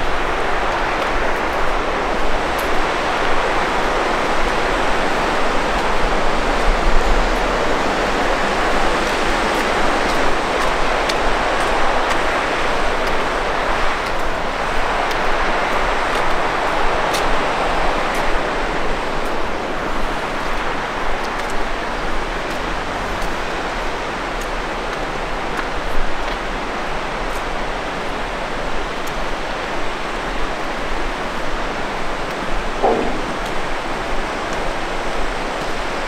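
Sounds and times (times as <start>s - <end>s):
mountain river rushing: 0.0s - 36.0s.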